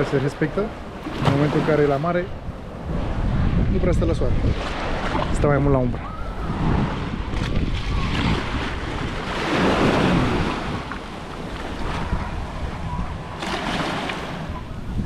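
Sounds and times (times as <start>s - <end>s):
small waves lapping on shore: 0.0s - 15.0s
wind buffeting microphone: 0.6s - 15.0s.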